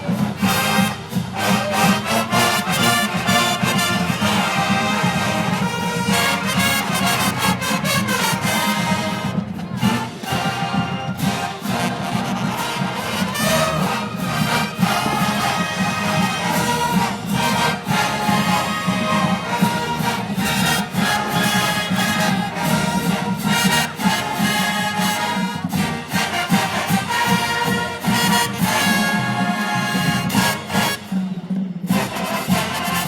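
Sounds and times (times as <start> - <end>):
brass trumpets and trombones: 0.0 - 33.0
marching band drums: 0.0 - 33.0.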